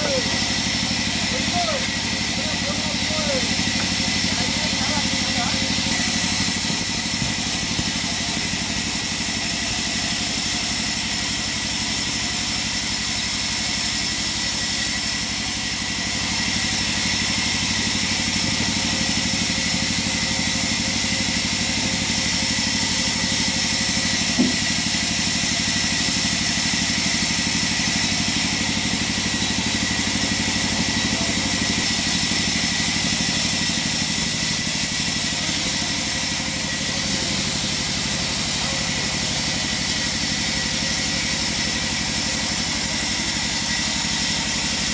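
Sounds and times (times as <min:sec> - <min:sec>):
sawmill machinery humming and whining: 0:00.0 - 0:44.9.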